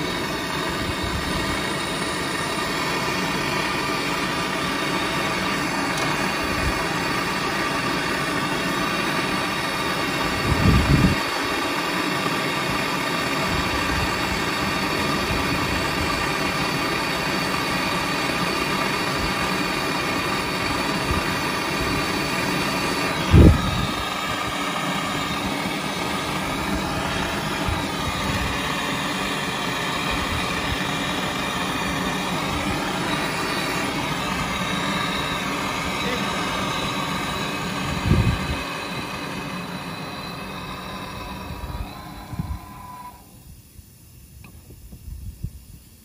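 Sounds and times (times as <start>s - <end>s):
torch flame hissing: 0.0s - 46.0s.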